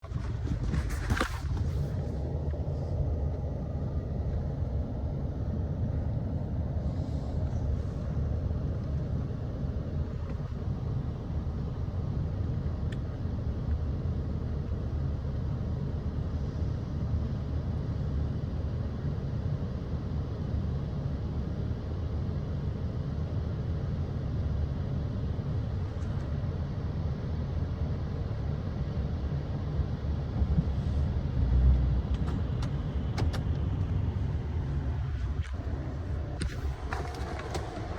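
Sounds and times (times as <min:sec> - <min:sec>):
steady low rumble: 0:00.0 - 0:37.9.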